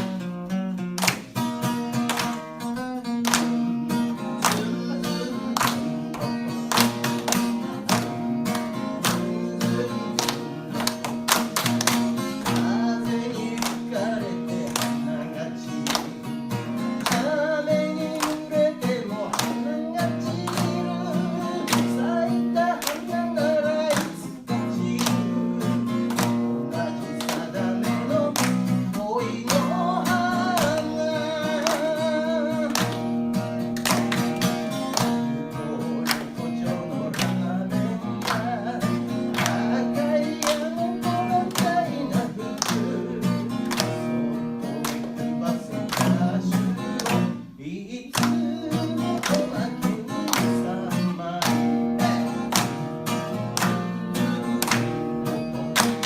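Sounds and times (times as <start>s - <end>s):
acoustic guitar strumming: 0.0s - 56.0s
person singing: 2.7s - 11.1s, 12.2s - 33.0s, 34.9s - 52.7s.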